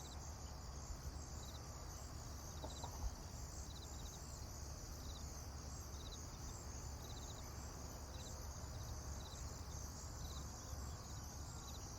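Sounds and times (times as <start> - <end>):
insects chirping: 0.0 - 11.9.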